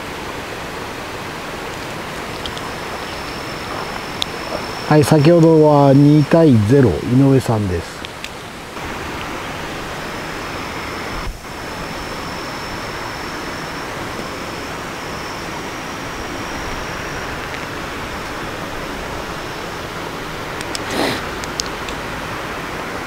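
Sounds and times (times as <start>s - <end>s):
faint high whine: 0.0s - 23.0s
running water hissing: 0.0s - 23.0s.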